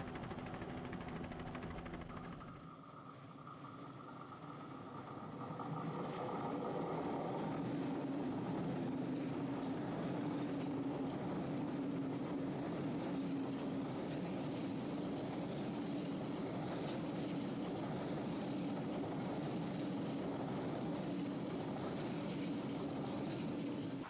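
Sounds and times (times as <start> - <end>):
train wheels rumbling on rail: 3.5 - 24.0.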